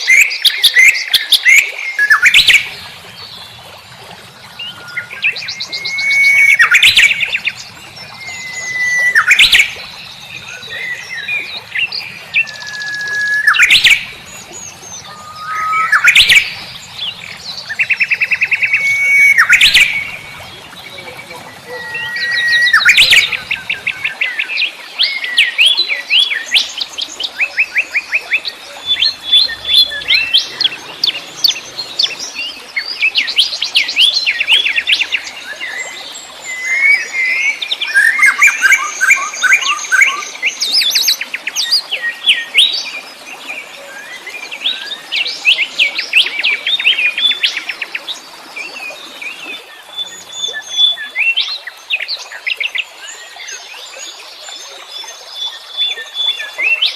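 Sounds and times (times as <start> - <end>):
songbirds singing and chirping: 0.0 - 56.9.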